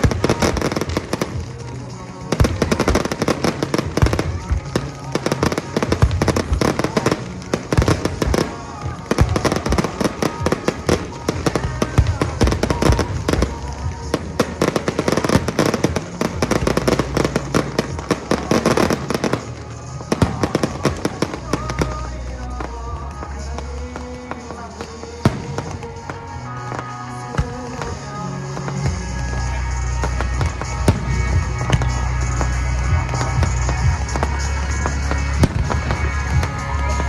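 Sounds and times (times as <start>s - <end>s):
firework bangs and crackles: 0.0s - 37.0s
music playing: 0.0s - 37.0s.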